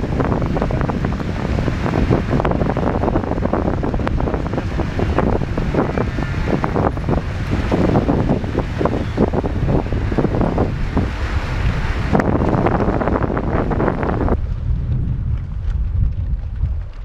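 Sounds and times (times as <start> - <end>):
river water rumbling: 0.0 - 17.0
wind buffeting microphone: 0.0 - 17.0.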